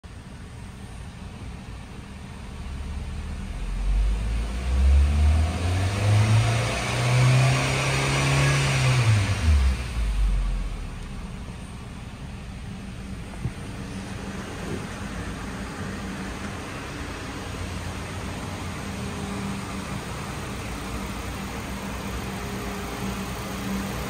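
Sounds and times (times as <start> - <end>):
car engine revving: 2.6 - 11.9, 12.6 - 24.0.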